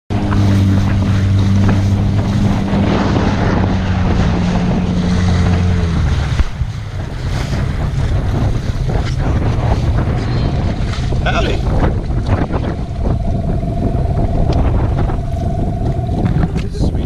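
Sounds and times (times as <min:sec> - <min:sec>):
steady low drone: 0:00.1 - 0:17.0
water noise: 0:00.1 - 0:17.0
wind buffeting microphone: 0:00.1 - 0:17.0.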